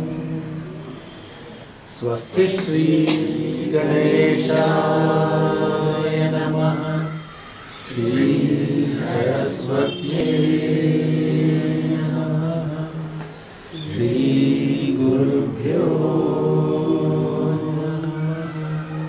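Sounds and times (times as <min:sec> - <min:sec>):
man and woman chanting: 0:00.0 - 0:19.0.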